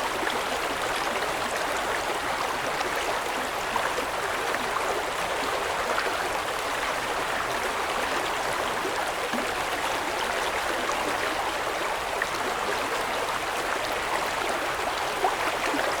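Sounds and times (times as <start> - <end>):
stream flowing and burbling: 0.0 - 16.0.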